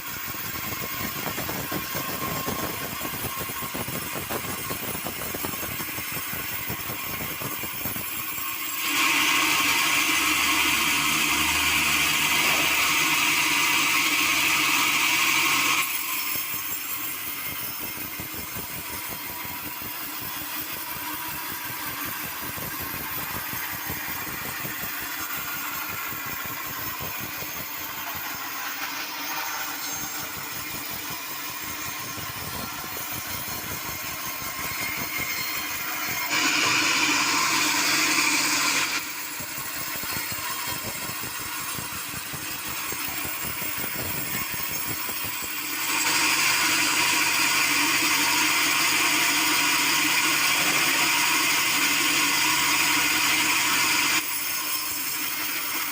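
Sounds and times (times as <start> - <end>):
sawmill saw cutting wood: 0.0 - 55.9.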